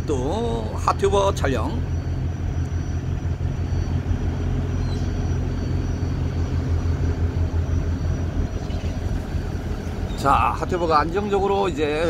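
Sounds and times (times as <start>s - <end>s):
ship engines rumbling: 0.0s - 12.0s.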